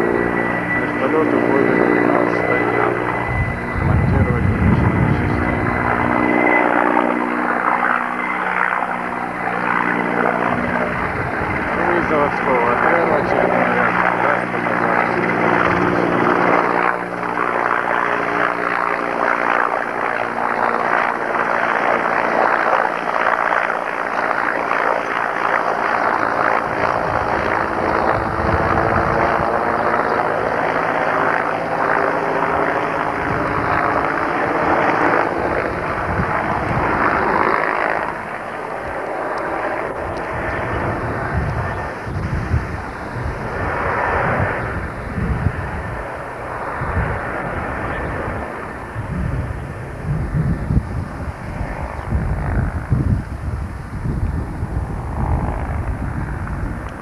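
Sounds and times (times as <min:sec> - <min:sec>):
helicopter flying overhead: 0:00.0 - 0:57.0.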